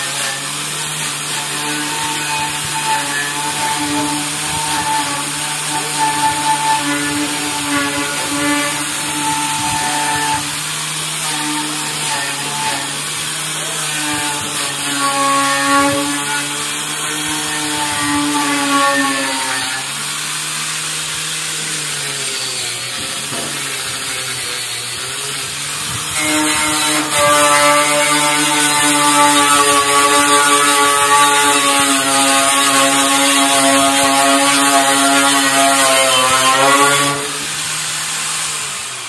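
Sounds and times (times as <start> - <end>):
power tool motor whining: 0.0 - 39.0.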